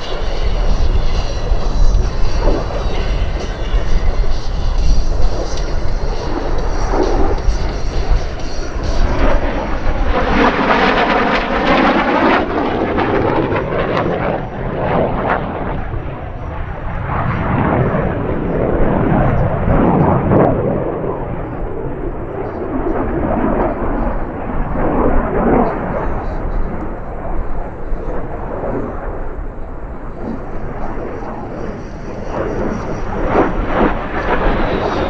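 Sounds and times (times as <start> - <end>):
jet fighter flyby: 0.0 - 35.0.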